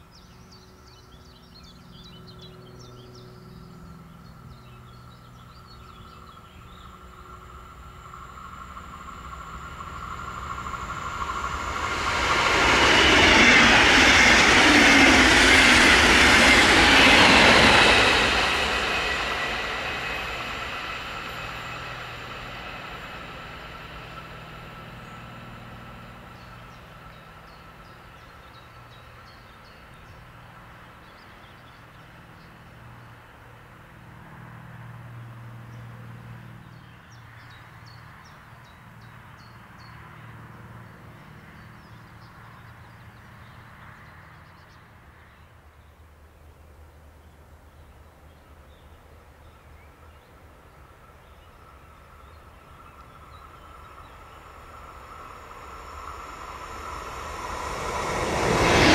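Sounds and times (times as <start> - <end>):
electric train passing: 0.0 - 36.7, 46.8 - 58.9.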